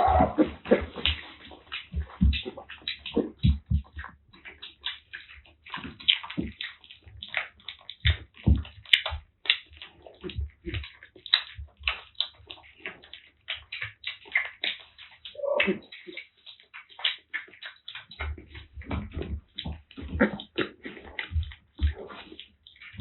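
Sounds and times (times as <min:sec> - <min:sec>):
kittens chewing and lapping: 0:00.0 - 0:23.0.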